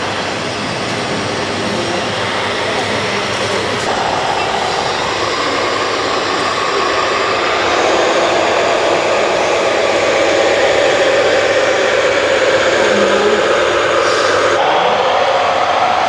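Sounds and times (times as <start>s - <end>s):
electric motors whirring: 0.0s - 15.8s.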